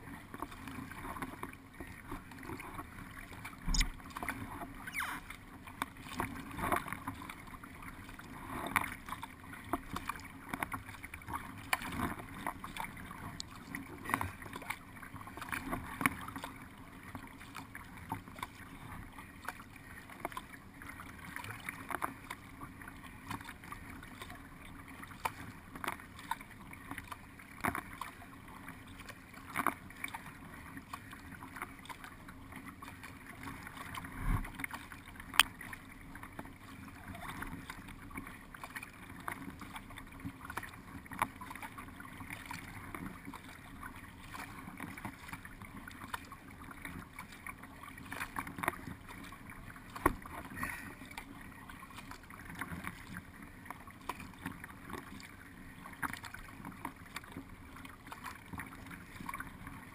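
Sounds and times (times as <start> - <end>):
paddle splashes: 0.0 - 59.9
water lapping along boat hull: 0.0 - 59.9.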